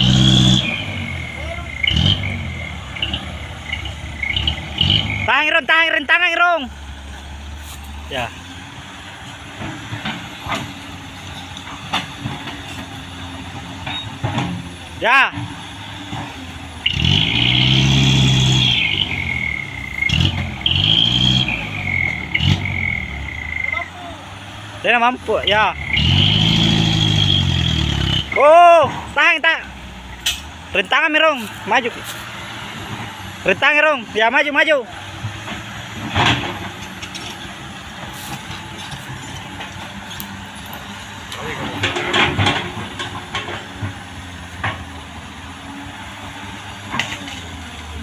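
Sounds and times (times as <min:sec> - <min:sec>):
diesel engine revving: 0:00.0 - 0:48.0.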